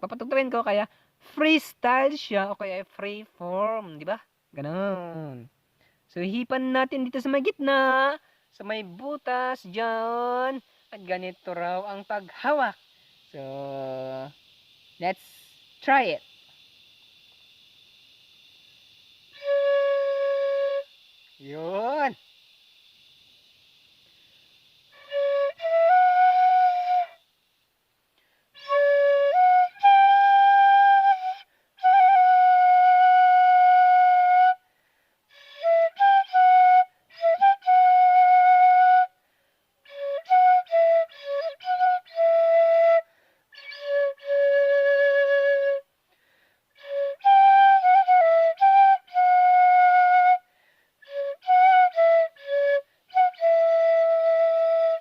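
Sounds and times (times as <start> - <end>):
bamboo flute playing: 8.7 - 24.0, 24.6 - 27.6, 28.5 - 46.0, 46.7 - 55.0.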